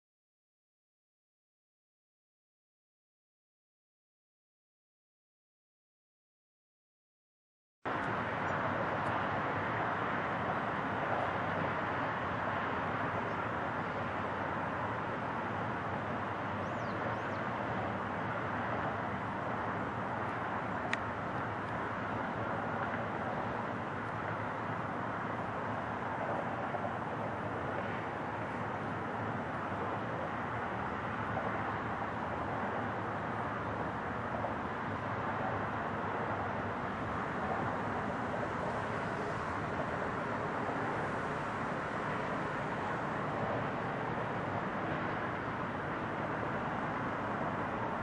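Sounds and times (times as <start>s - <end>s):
outdoor background rumble and hiss: 7.9s - 48.0s.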